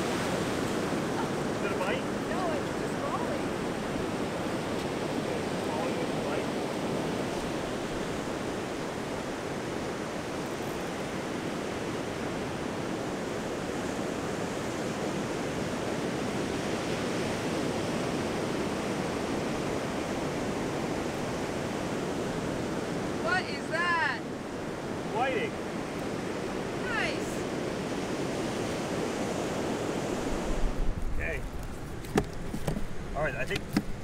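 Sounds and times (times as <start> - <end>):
ocean surf on sandy beach: 0.0 - 34.0.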